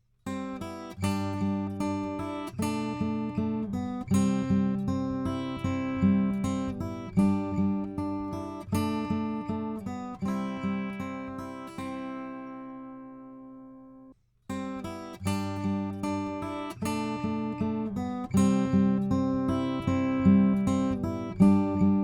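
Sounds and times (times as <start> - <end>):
acoustic guitar strumming: 0.3 - 22.0.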